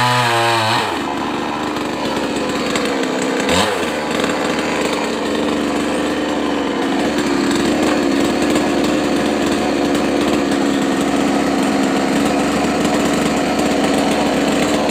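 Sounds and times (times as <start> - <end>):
chainsaw cutting: 0.0 - 14.9.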